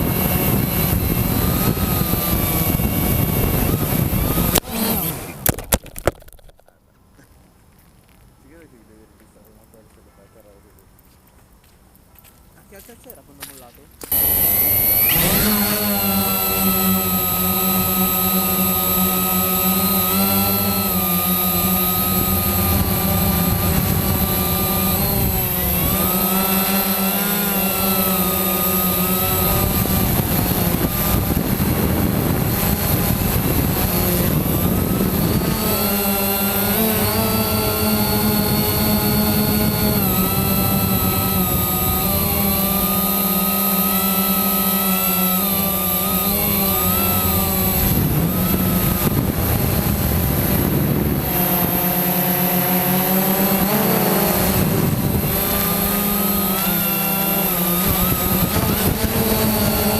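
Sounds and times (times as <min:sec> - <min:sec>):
quadcopter propellers whining: 0:00.0 - 0:06.8, 0:12.8 - 0:59.9.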